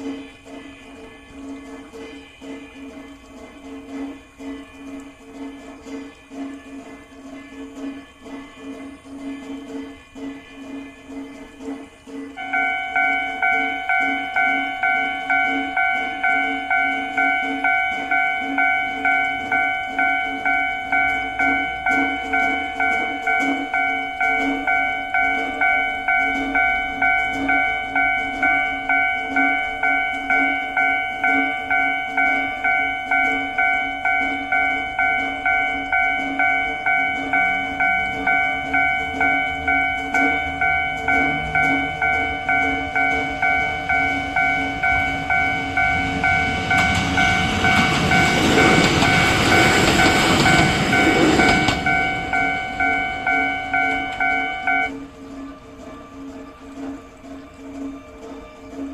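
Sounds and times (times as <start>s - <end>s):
level crossing warning bell: 0.0s - 58.9s
train rumble: 0.0s - 58.9s.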